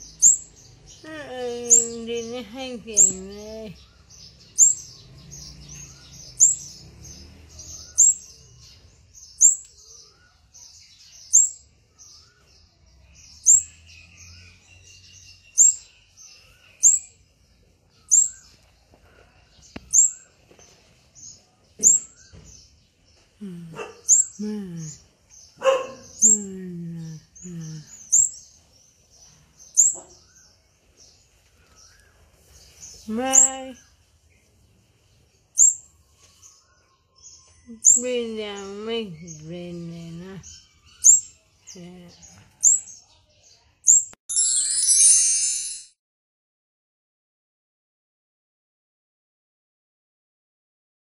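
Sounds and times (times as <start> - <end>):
fledgling songbird chirping: 0.0 - 18.8, 19.6 - 20.4, 21.2 - 34.2, 35.3 - 45.7.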